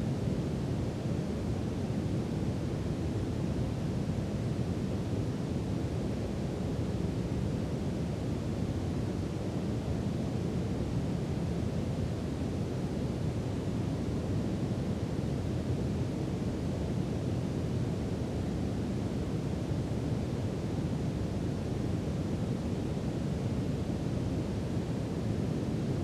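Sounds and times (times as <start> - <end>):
brown noise hiss: 0.0 - 26.0.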